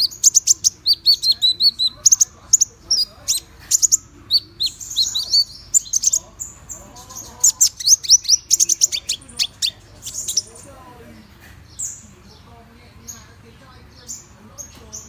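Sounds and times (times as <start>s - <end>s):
songbird chattering song: 0.0s - 15.0s.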